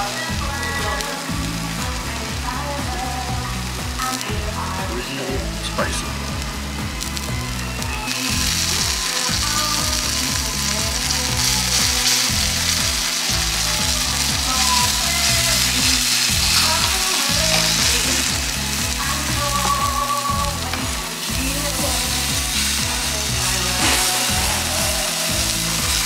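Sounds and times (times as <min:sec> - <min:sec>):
background music: 0:00.0 - 0:26.0
steak sizzling: 0:00.0 - 0:26.0.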